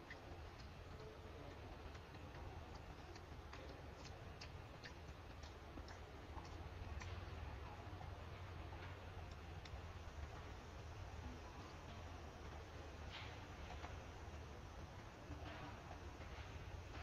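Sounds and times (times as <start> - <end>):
faint clicks and ticks: 0.0 - 17.0
low steady hum: 0.0 - 17.0.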